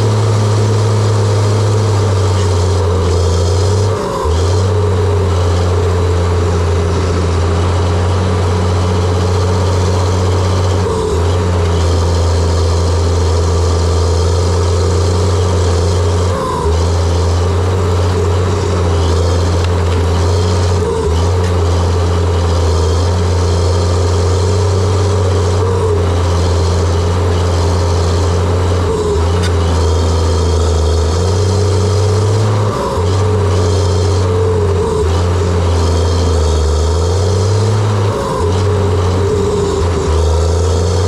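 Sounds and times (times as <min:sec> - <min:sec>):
dozer diesel engine droning: 0:00.0 - 0:41.0.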